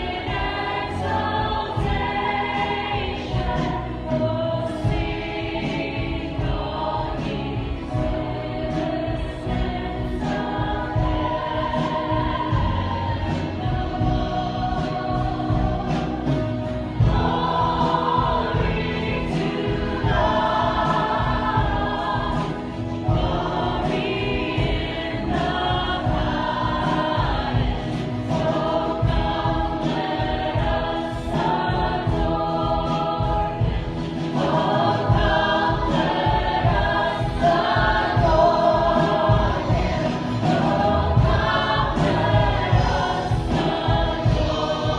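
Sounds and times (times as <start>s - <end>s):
group singing a hymn: 0.0s - 44.9s
instrumental accompaniment: 0.0s - 44.9s.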